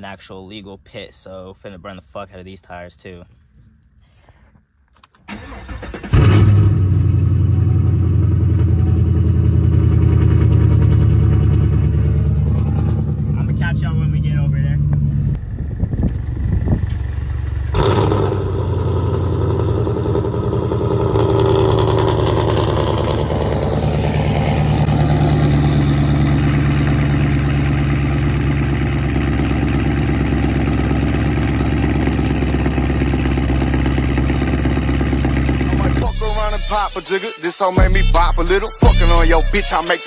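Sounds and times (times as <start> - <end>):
car engine starting and idling: 4.9 - 37.0.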